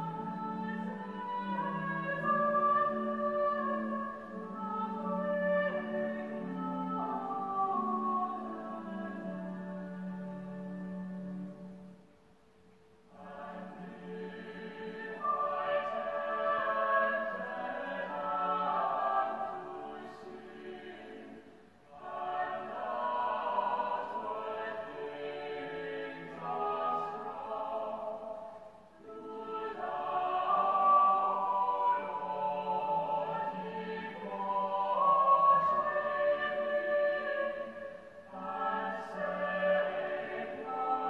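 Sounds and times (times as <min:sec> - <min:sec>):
choir singing a hymn: 0:00.0 - 0:12.0, 0:13.0 - 0:41.0.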